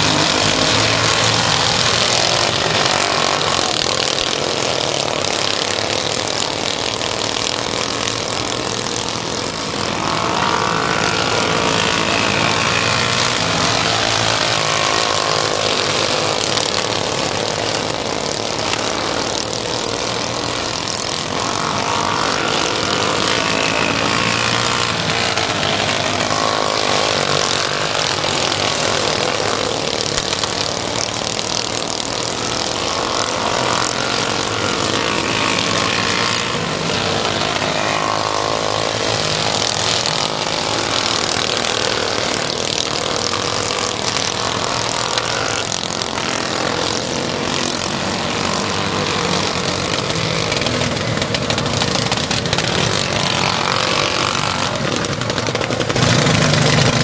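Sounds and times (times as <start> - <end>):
race car engines revving: 0.0 - 57.0.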